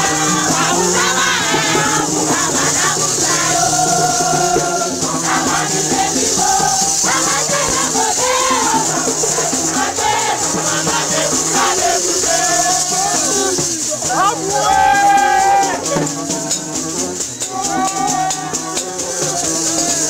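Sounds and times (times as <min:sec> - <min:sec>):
many voices singing together: 0:00.0 - 0:20.0
shaker rattle: 0:00.0 - 0:20.0.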